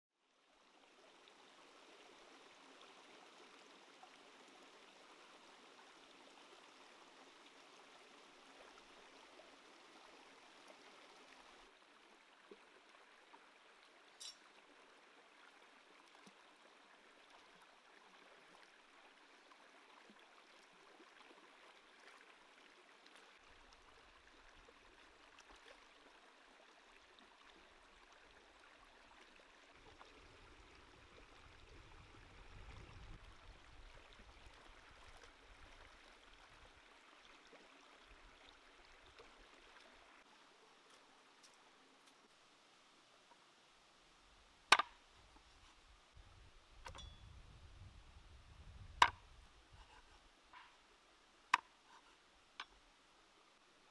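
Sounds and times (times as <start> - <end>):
stream flowing over rocks: 0.2 - 47.0, 49.0 - 53.9.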